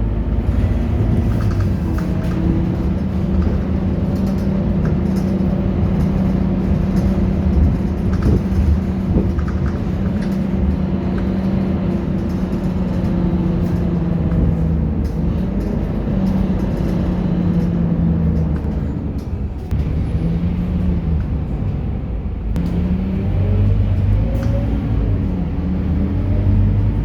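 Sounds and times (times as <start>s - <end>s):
bus diesel engine humming: 0.0s - 27.0s.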